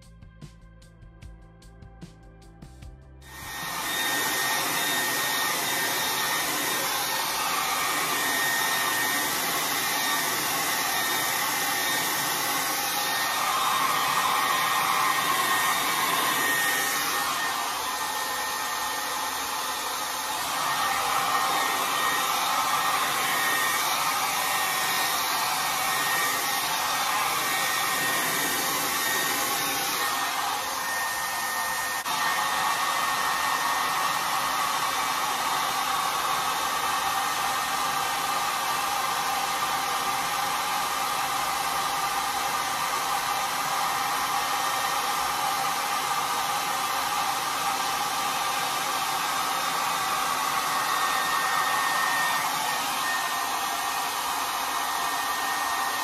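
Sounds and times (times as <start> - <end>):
hair dryer running: 3.2 - 56.0.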